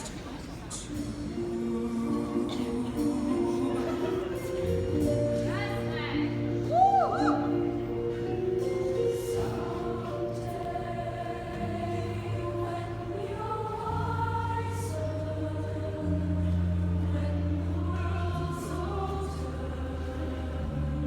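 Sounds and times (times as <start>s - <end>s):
vocal ensemble singing in harmony: 0.4s - 21.0s.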